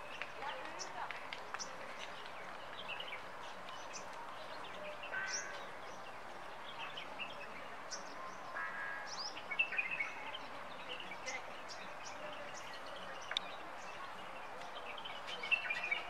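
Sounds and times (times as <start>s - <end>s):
birds chirping and twittering: 0.0s - 16.0s
faint outdoor noise: 0.0s - 16.0s.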